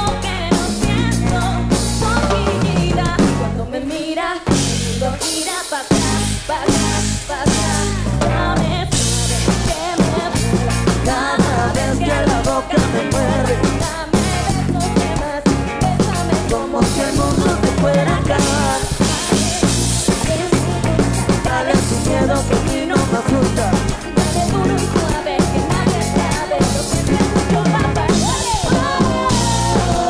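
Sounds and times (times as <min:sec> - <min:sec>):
drum kit: 0:00.0 - 0:30.0
live band music: 0:00.0 - 0:30.0.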